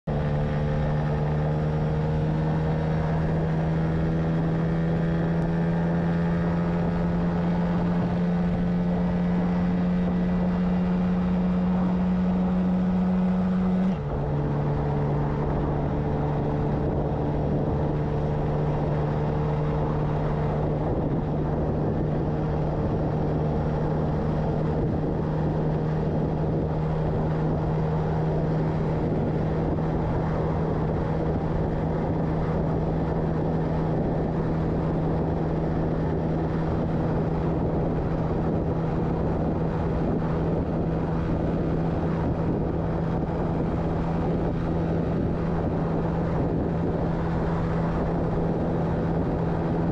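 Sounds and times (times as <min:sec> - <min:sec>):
wind and road noise: 0:00.0 - 0:49.9
small motorcycle engine cruising: 0:00.1 - 0:49.9.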